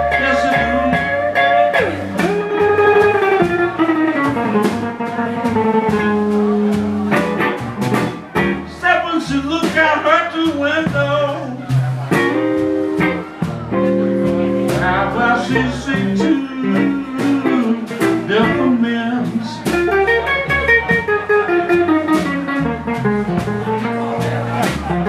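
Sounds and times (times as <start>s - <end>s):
drum kit: 0.0s - 25.0s
electric guitar: 0.0s - 25.0s
upright double bass: 0.0s - 25.0s.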